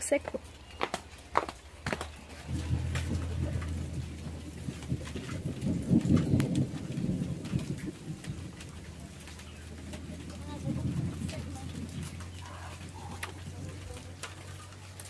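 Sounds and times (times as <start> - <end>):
rain falling: 0.0 - 15.0
thunder rumbling: 0.4 - 15.0.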